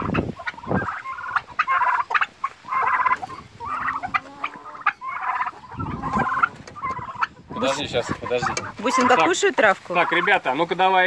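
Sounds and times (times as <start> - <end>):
turkeys gobbling: 0.0 - 11.0.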